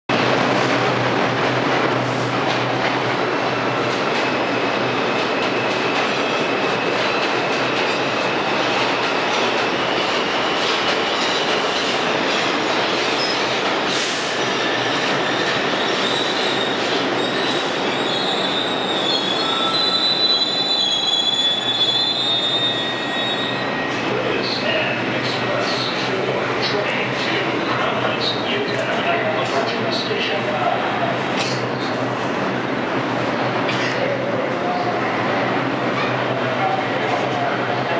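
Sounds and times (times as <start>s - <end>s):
train wheels rumbling on rail: 0.1s - 37.9s.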